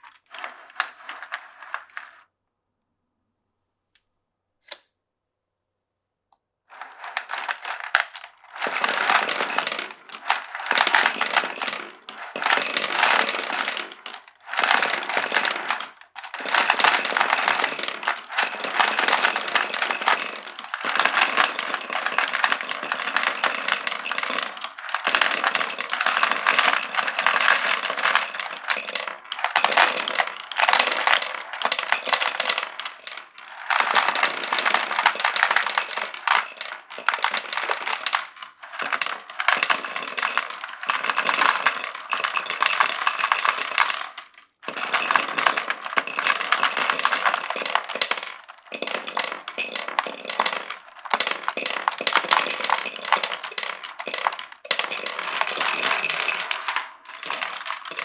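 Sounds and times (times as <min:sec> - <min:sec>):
marbles rattling on wooden run: 0:00.0 - 0:02.2, 0:06.7 - 0:58.0.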